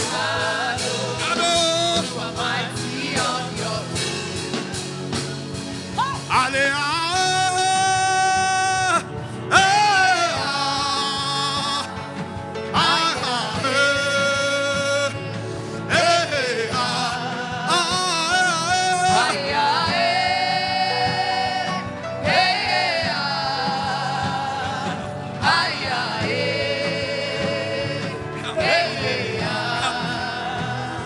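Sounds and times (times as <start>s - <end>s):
instrumental backing music: 0.0s - 31.0s
person singing with vibrato: 6.0s - 31.0s.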